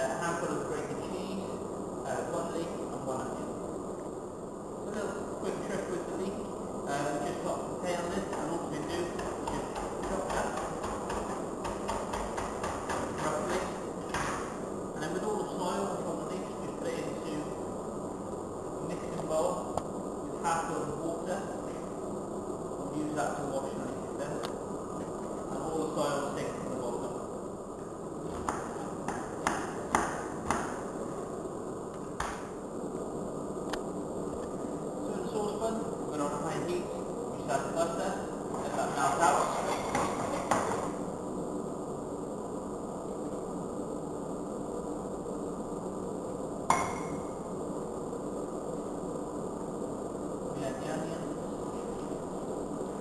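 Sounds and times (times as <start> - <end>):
low background noise: 0.0 - 53.0.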